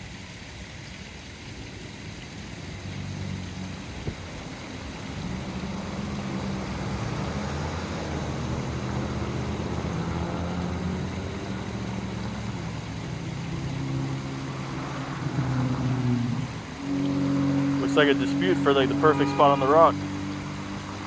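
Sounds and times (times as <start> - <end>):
vehicle engine running: 2.5 - 21.0.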